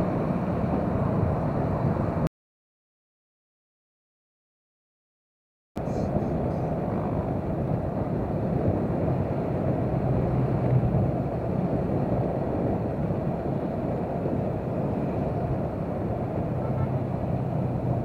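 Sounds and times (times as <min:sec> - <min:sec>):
road noise: 0:00.0 - 0:02.3, 0:05.8 - 0:18.0
wind rushing over microphone: 0:00.0 - 0:02.3, 0:05.8 - 0:18.0.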